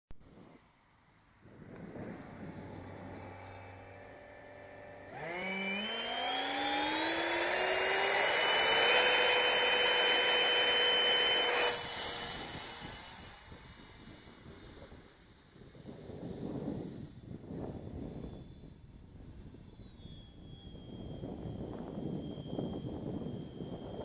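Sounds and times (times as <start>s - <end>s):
electric ducted fan whine: 0.2s - 24.0s.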